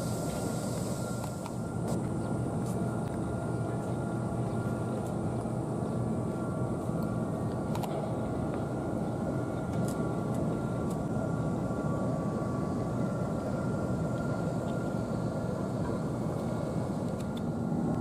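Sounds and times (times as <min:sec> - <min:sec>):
faint steady hum: 0:00.0 - 0:18.0
low industrial rumble: 0:00.0 - 0:18.0.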